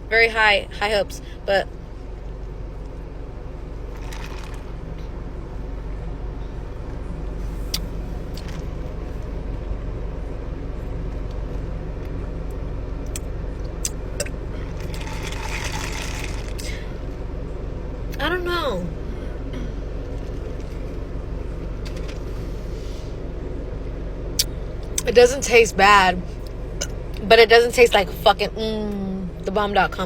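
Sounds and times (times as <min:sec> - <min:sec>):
car engine rumble: 0:00.0 - 0:30.0
road noise: 0:00.0 - 0:30.0.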